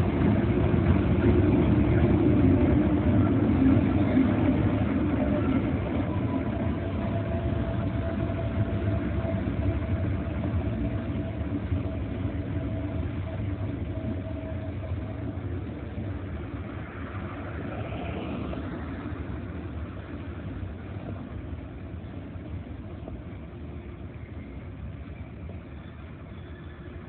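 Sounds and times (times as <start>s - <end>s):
freight train rumble: 0.0s - 27.0s.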